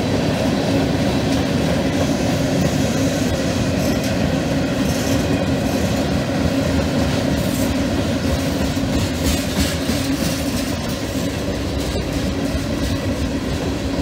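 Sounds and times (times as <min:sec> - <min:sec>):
steel wheels rumbling on rails: 0:00.0 - 0:14.0
wheels clickety-clack over joints: 0:00.7 - 0:14.0.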